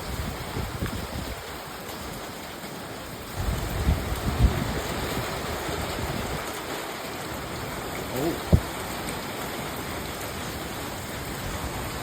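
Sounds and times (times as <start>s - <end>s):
strong wind: 0.0s - 2.2s, 3.3s - 12.0s
heavy rain: 0.0s - 12.0s.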